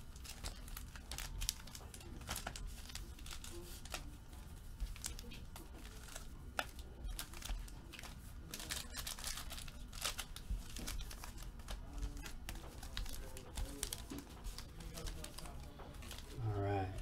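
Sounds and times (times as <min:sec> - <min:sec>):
card packs crinkling: 0:00.0 - 0:16.4.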